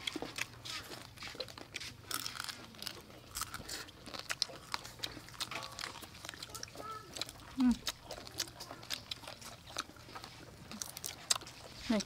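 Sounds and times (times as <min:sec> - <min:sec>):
people chewing crunchy vegetables: 0:00.0 - 0:12.0.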